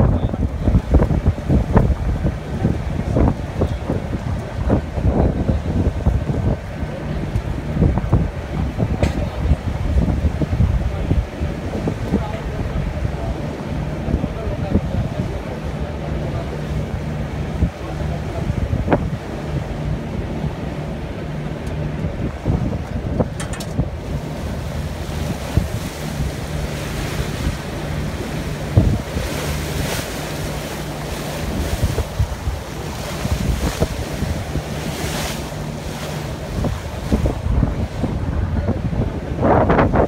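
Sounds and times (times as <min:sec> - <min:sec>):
boat engine drone: 0:00.0 - 0:40.0
water rushing past hull: 0:00.0 - 0:40.0
wind buffeting microphone: 0:00.0 - 0:40.0.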